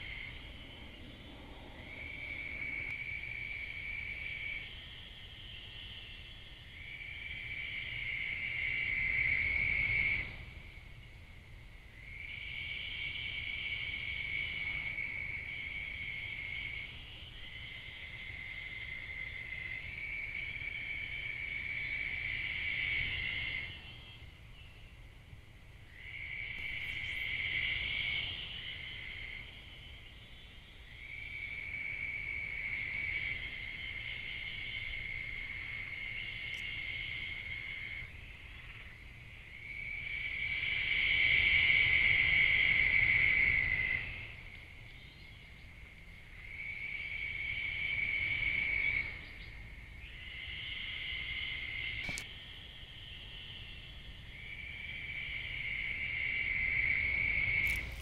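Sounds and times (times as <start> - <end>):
insects trilling: 0.0 - 25.0, 25.7 - 58.0.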